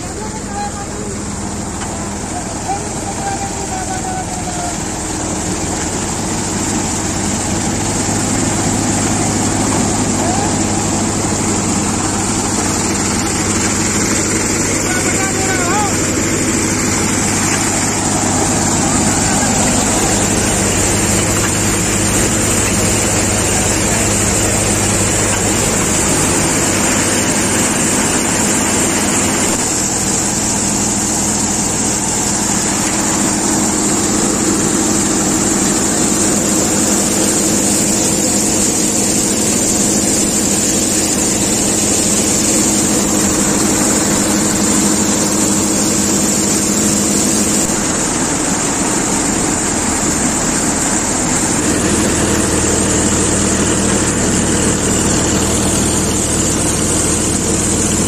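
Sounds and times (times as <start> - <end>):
threshing drum and blower spinning: 0.0 - 58.0
tractor engine drone: 0.0 - 58.0.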